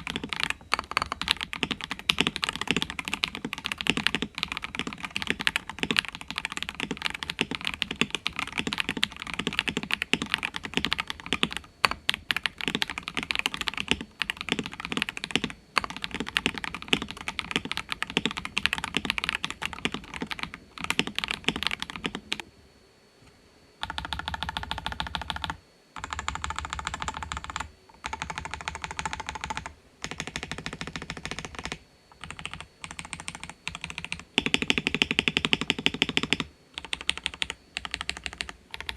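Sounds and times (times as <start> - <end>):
fast typing on mechanical keyboard: 0.0 - 22.4, 23.8 - 38.9.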